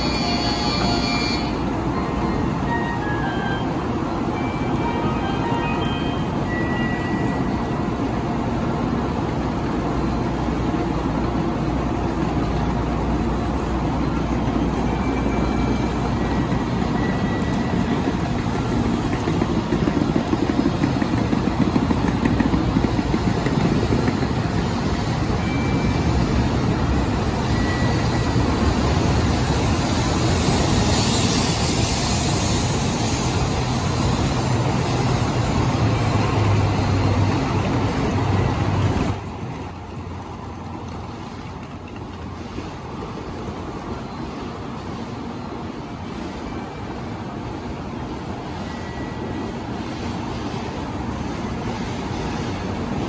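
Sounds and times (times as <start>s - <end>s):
train rumbling and hissing: 0.0s - 53.0s.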